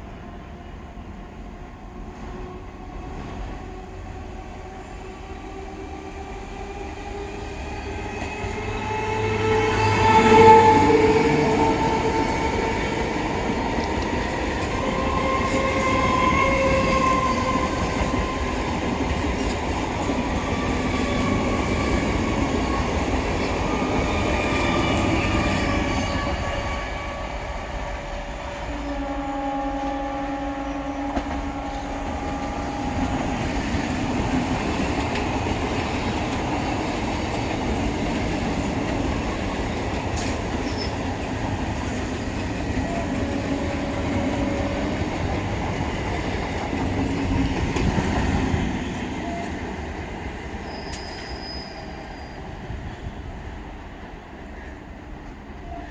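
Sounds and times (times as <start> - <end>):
train rumble and wheel noise: 0.0 - 55.9.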